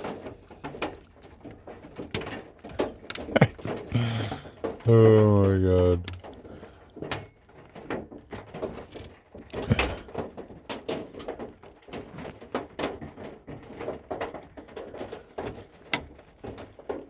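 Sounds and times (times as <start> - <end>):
hail pelting vehicle roof: 0.0 - 17.0.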